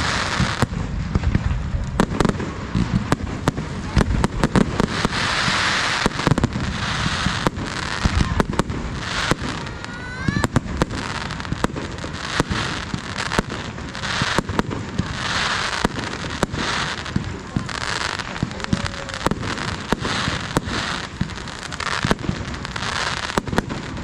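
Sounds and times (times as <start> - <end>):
hissing crackle: 0.0 - 24.0
rising firework whistle: 0.0 - 24.0.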